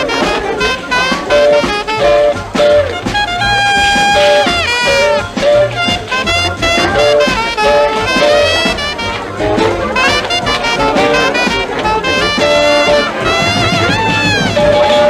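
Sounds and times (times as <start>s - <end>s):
big-band jazz: 0.0s - 15.0s
brass and saxophones: 0.0s - 15.0s
steady bass beat: 0.0s - 15.0s.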